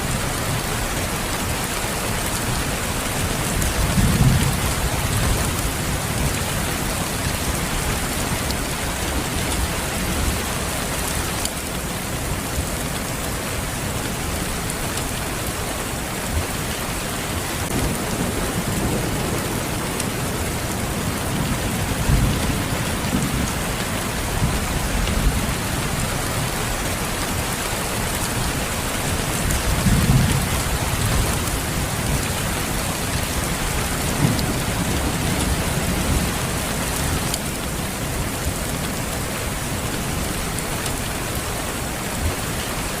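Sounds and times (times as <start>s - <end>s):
steady rain hissing: 0.0s - 43.0s.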